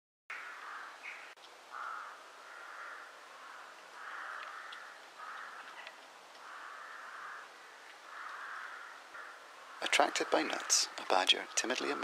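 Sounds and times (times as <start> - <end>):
harsh rasping bird calls: 0.3 - 12.0.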